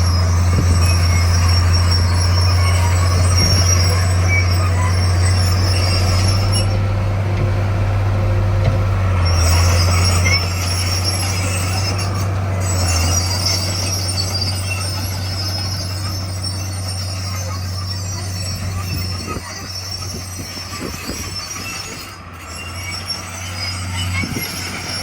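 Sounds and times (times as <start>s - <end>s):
bulldozer diesel engine running: 0.0s - 25.0s
steel tracks squealing: 0.0s - 25.0s.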